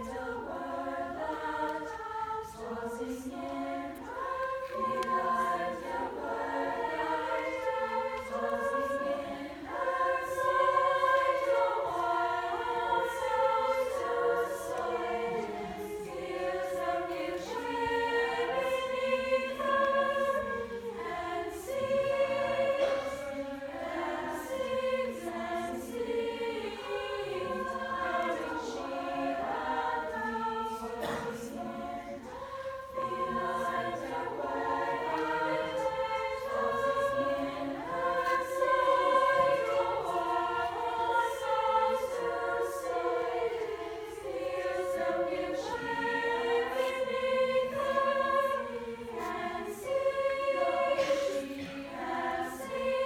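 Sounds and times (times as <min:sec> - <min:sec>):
choir singing chords: 0:00.0 - 0:53.0.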